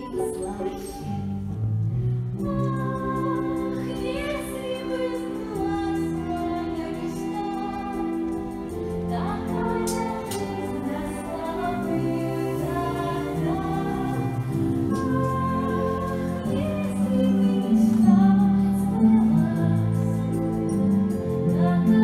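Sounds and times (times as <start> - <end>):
instrumental backing: 0.0 - 22.0
person singing slow melody: 2.4 - 22.0.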